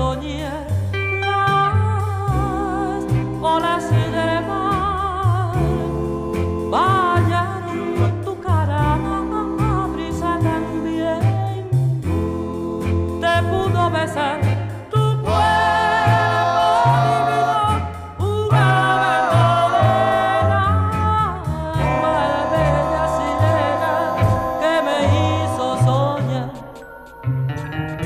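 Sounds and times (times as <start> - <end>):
song with sung vocal and bass: 0.0 - 28.0.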